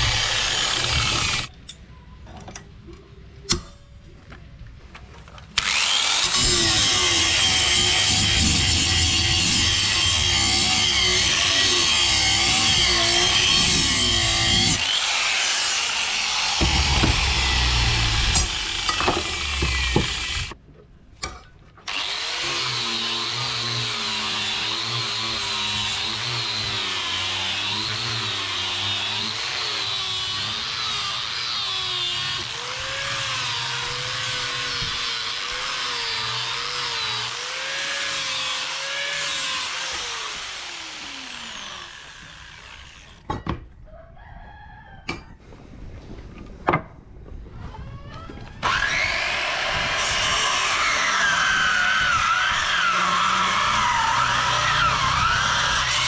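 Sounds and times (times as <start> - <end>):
power tool motor whine: 0.0 - 1.5, 5.6 - 20.6, 21.9 - 43.2, 48.6 - 56.0.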